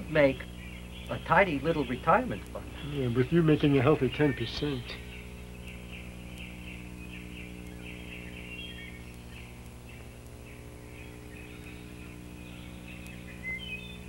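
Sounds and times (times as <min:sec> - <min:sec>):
birds chirping: 0:00.0 - 0:14.0
low electrical hum: 0:00.0 - 0:14.0.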